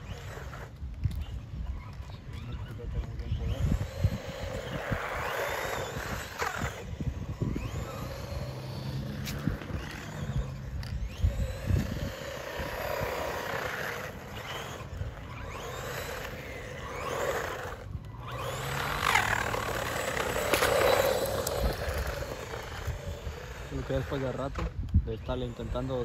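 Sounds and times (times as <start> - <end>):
rough running noise: 0.0 - 26.0
toy car motor whining: 0.0 - 26.0.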